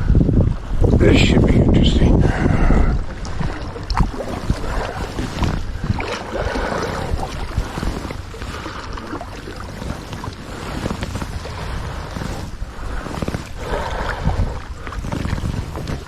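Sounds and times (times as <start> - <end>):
water splashing around kayak: 0.0 - 16.0
wind rumbling on microphone: 0.0 - 16.0.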